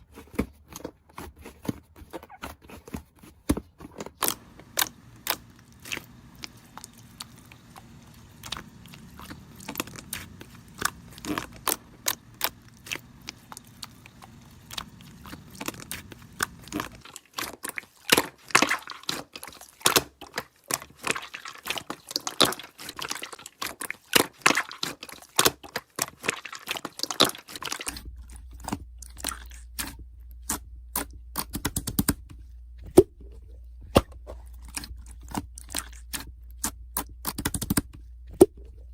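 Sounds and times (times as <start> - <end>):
low background hum: 0.0 - 17.6, 18.2 - 38.9.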